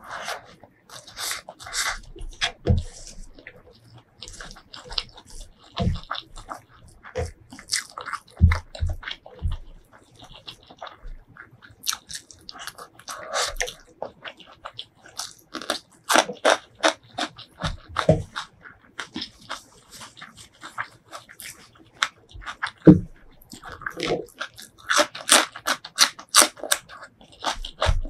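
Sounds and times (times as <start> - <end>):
crunching and chewing food: 0.0 - 28.0.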